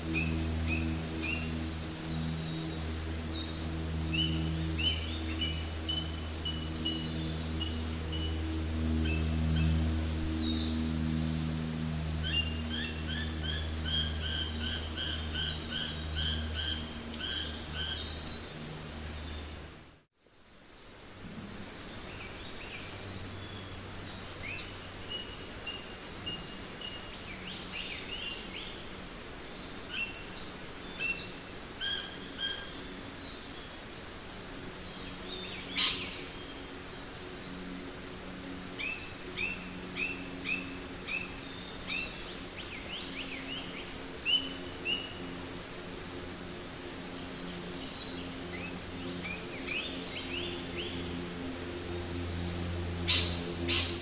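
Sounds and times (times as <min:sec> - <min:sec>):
birds chirping and trilling: 0:00.0 - 0:20.0, 0:21.7 - 0:54.0
low hum: 0:00.0 - 0:54.0
steady background hiss: 0:00.0 - 0:54.0.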